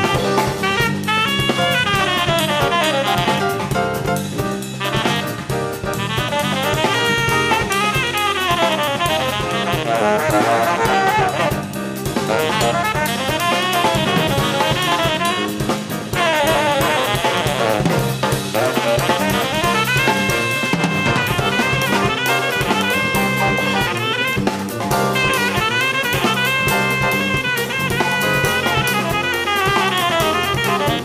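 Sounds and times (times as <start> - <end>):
jazz band accompaniment: 0.0 - 31.0
tenor saxophone jazz runs: 0.0 - 31.0.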